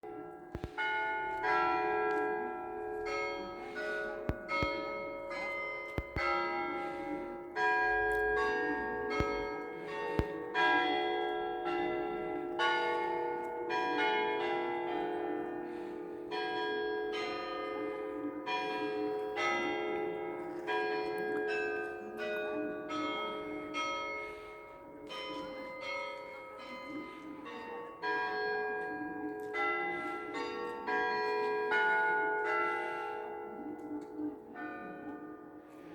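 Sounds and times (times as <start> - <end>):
church bells ringing: 0.0 - 35.9.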